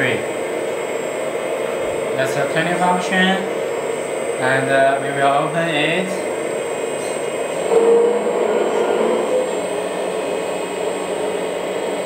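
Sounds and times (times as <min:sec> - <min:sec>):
hydraulic pump whirring: 0:00.0 - 0:12.0
louder hum: 0:00.0 - 0:12.0.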